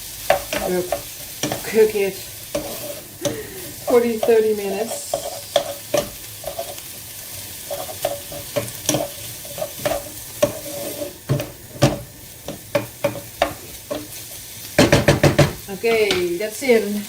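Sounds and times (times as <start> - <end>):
vegetables sizzling in a pan: 0.0 - 17.0
utensil scraping and knocking pan: 0.3 - 6.8, 7.4 - 16.3.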